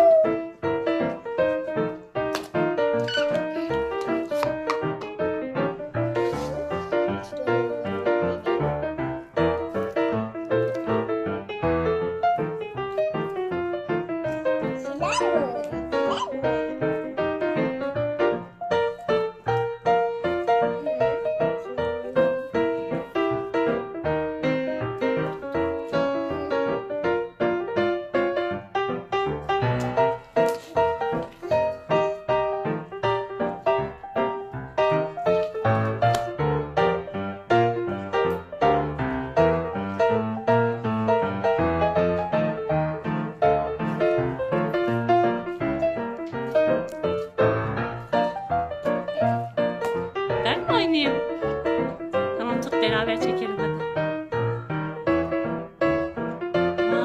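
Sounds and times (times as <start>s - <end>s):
bright piano melody: 0.0s - 57.0s.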